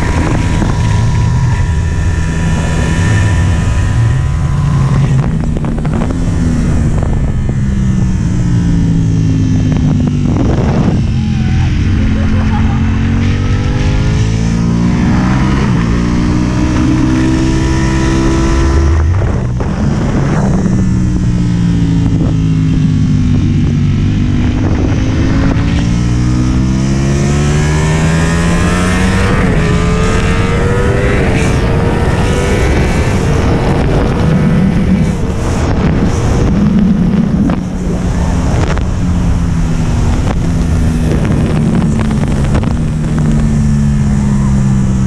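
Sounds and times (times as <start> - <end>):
motorcycle engine accelerating: 0.0 - 45.0
wind rushing over microphone: 0.0 - 45.0.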